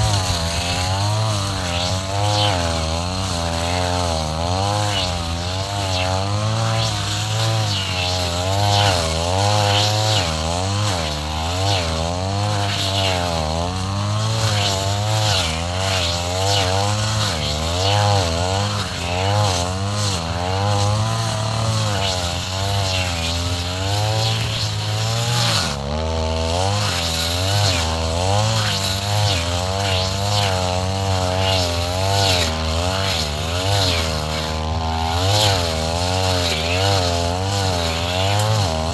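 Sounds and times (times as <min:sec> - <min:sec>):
brush cutter cutting grass: 0:00.0 - 0:38.9.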